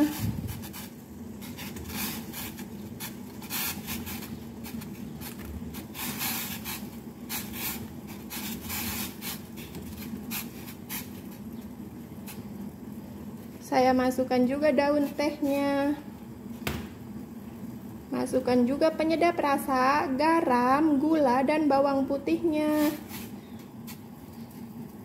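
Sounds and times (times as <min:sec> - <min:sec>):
steady low hum: 0:00.0 - 0:25.0
water boiling and bubbling: 0:00.0 - 0:25.0.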